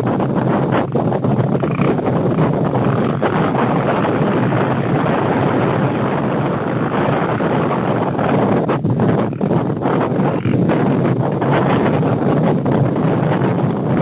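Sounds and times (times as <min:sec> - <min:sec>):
dirt bike engine running: 0:00.0 - 0:14.0
wind buffeting microphone: 0:00.0 - 0:14.0.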